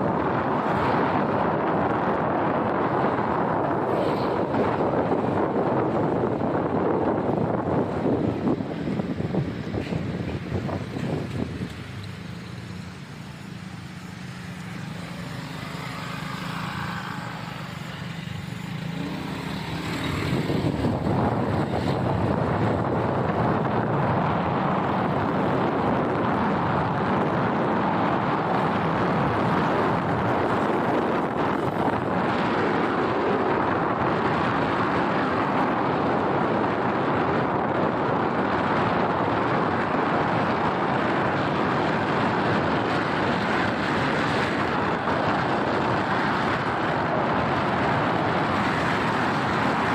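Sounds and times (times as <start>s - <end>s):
motorcycle engine hum: 0.0s - 49.9s
wind and road noise: 0.0s - 49.9s.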